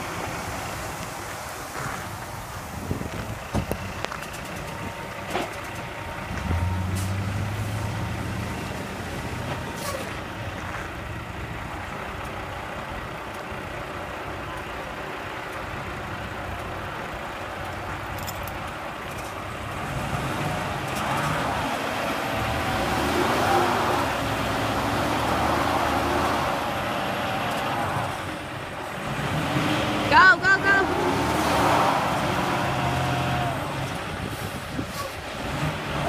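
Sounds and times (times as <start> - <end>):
truck engines running under load: 0.0 - 36.0.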